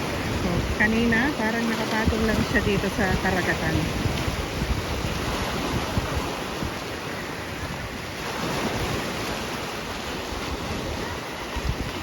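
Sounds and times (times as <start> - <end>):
sea waves washing onto shore: 0.0 - 12.0
wind buffeting microphone: 0.0 - 12.0.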